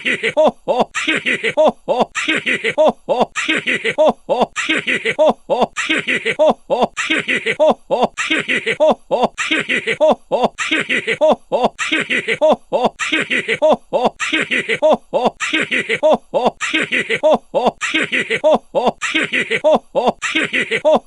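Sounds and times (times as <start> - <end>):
looped laugh sound effect: 0.0 - 21.0.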